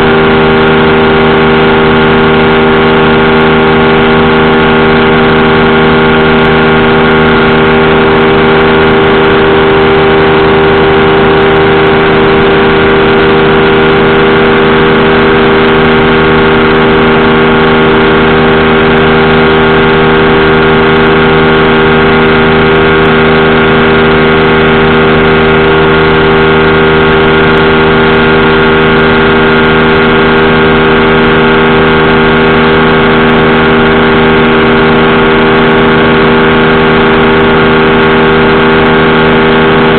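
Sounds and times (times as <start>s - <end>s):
engine and propeller drone: 0.0s - 39.9s.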